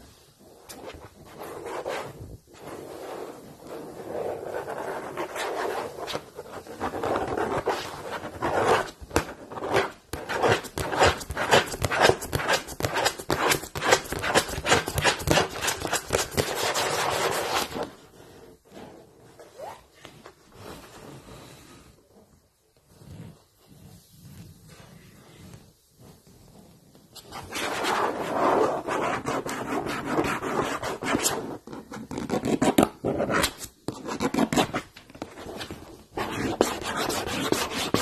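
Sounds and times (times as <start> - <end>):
fingernails scratching blackboard: 0.7 - 19.4, 22.8 - 38.0.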